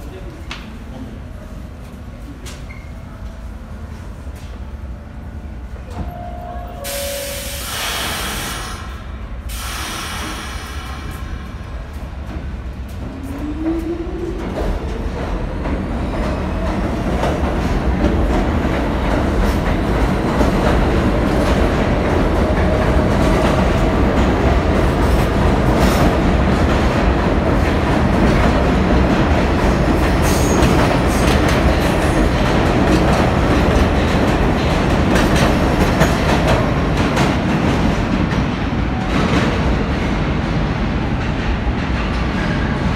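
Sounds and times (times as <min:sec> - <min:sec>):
train rumble: 0:00.0 - 0:42.9.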